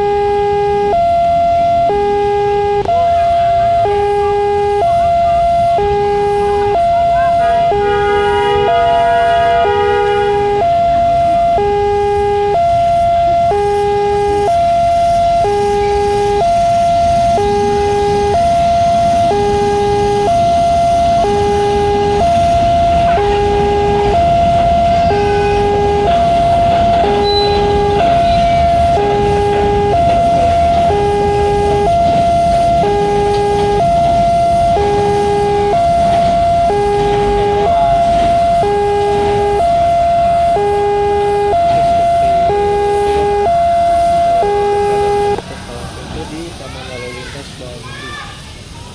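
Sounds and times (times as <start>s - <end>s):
two-tone crossing alarm: 0.0s - 45.5s.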